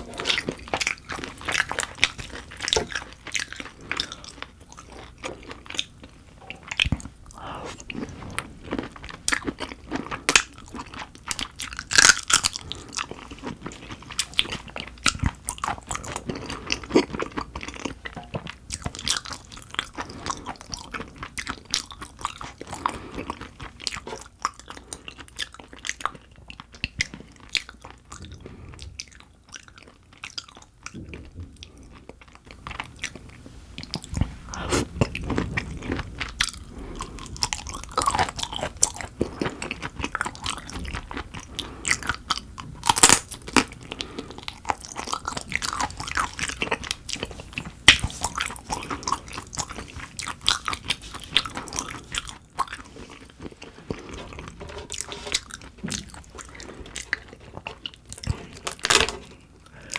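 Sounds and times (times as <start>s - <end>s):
wet chewing clicks: 0.0s - 59.0s.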